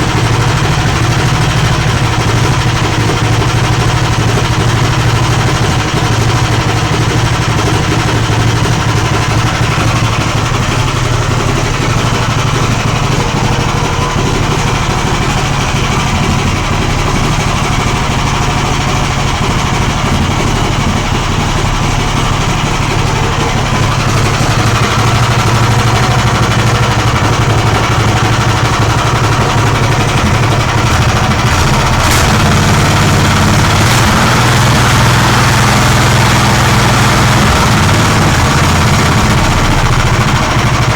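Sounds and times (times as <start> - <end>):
petrol engine running: 0.0 - 40.9.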